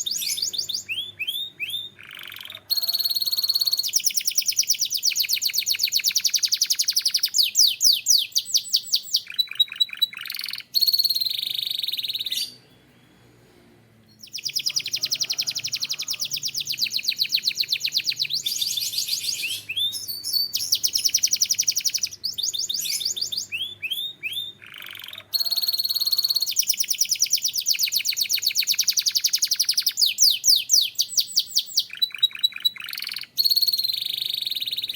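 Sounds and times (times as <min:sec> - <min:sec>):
canary singing trills: 0:00.0 - 0:13.1, 0:14.1 - 0:34.9.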